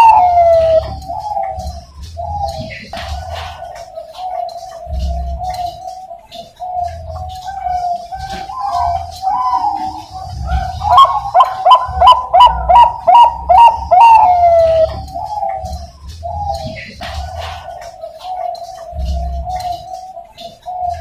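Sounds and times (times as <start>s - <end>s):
dove cooing song: 0.0s - 21.0s.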